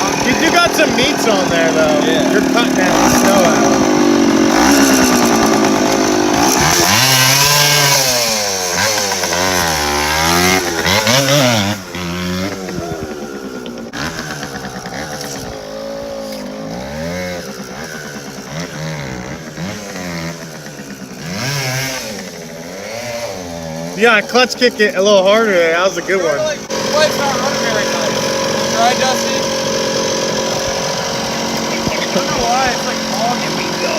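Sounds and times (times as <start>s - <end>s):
moped engine revving: 0.0s - 33.9s.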